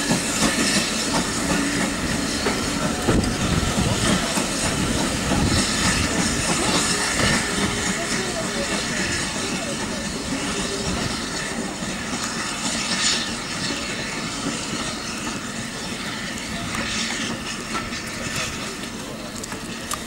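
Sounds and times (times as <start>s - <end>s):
running train: 0.0s - 20.0s
steam hissing: 0.0s - 20.0s.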